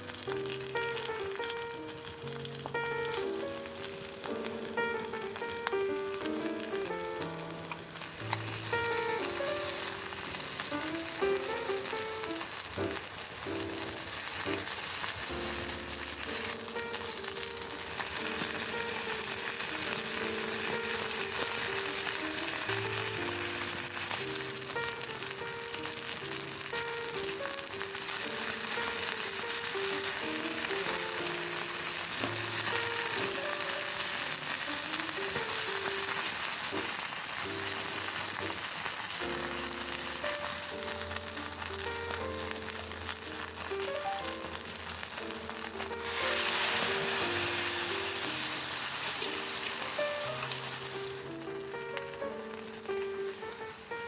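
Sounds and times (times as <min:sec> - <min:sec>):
food sizzling in a hot pan: 0:00.0 - 0:54.0
gentle background music: 0:00.0 - 0:54.0.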